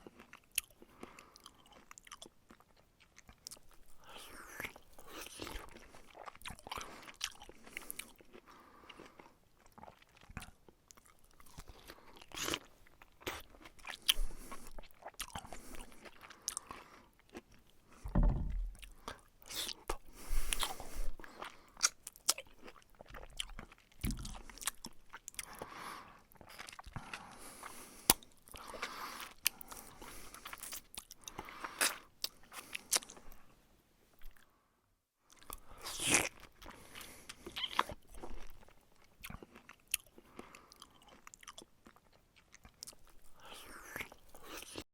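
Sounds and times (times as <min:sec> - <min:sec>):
crunchy chewing: 0:00.0 - 0:18.1, 0:18.7 - 0:33.5, 0:35.3 - 0:44.8.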